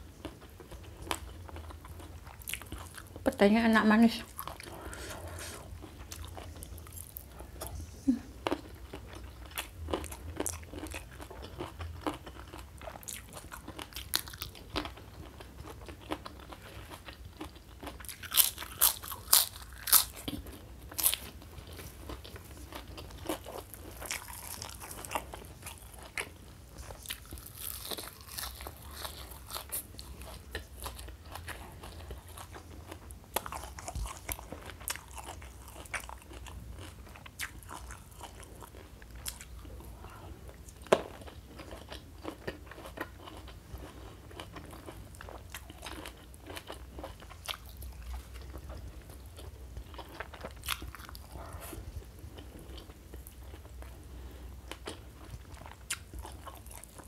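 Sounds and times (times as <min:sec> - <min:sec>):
chewing and crunching: 0:00.1 - 0:03.2, 0:04.2 - 0:07.8, 0:08.4 - 0:57.0.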